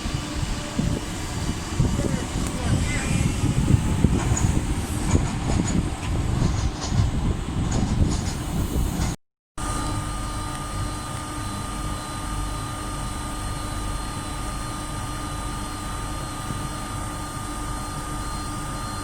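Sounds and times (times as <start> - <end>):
electric train hum and whine: 0.0 - 19.0.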